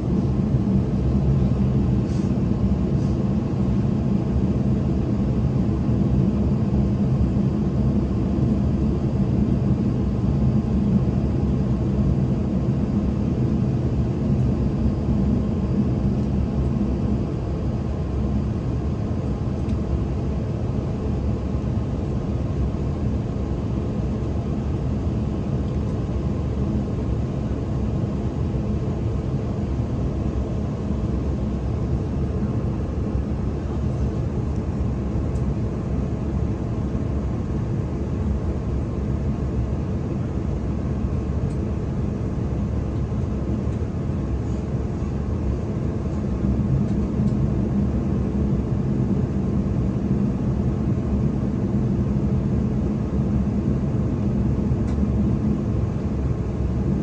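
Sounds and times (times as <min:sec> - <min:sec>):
aircraft cabin hum: 0:00.0 - 0:57.0.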